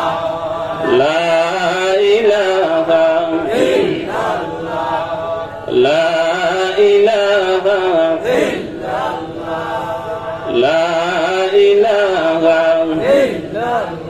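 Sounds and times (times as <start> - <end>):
man chanting devotional melody: 0.0 - 14.0.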